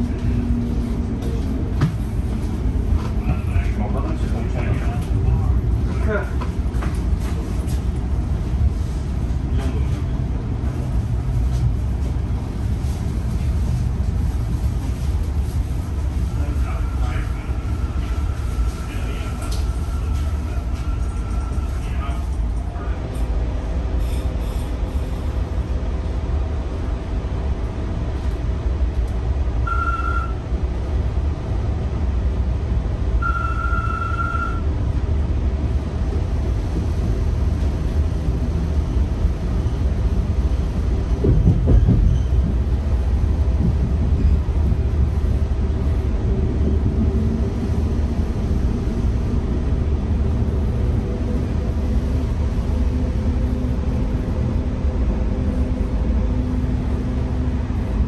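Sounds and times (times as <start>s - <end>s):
train clatter: 0.0s - 31.9s, 33.2s - 58.0s
train wheels rumbling: 0.0s - 58.0s.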